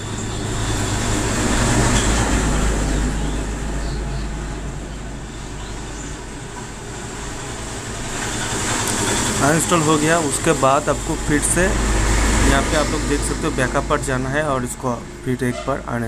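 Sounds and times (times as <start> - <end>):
low rumble with hiss: 0.0 - 16.0.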